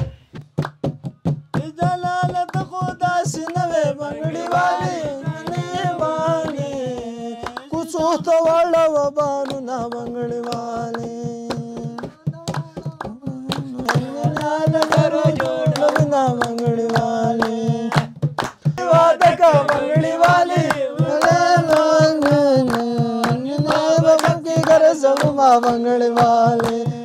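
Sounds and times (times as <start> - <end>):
hand drumming on metal canister: 0.0 - 27.0
man singing folk melody: 1.6 - 18.0, 21.0 - 27.0.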